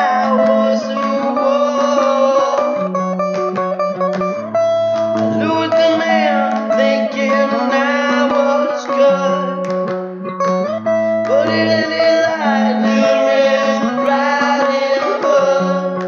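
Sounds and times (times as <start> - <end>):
guitar: 0.0 - 16.0
person singing: 0.0 - 16.0.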